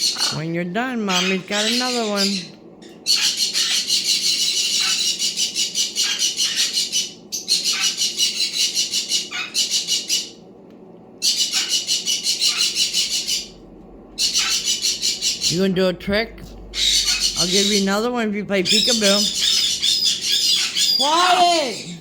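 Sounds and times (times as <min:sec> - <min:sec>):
parrot squawking: 0:00.0 - 0:10.4, 0:11.2 - 0:22.0.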